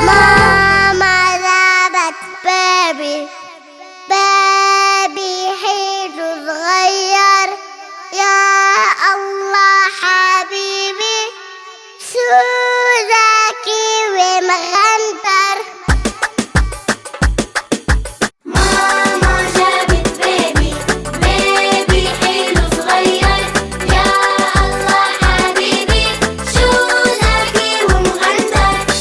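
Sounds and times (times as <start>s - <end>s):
child singing: 0.0s - 16.9s, 18.5s - 29.0s.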